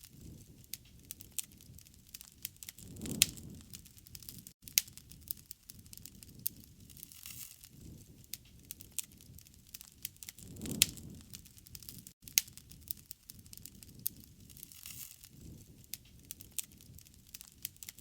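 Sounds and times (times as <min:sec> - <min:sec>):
campfire crackling and popping: 0:00.0 - 0:18.0
low rumble of burning: 0:00.0 - 0:18.0.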